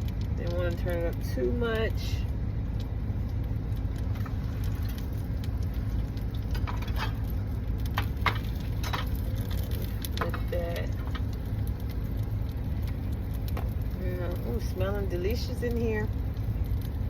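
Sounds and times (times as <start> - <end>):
food crackling in a pan: 0.0 - 17.0
heater low rumble: 0.0 - 17.0.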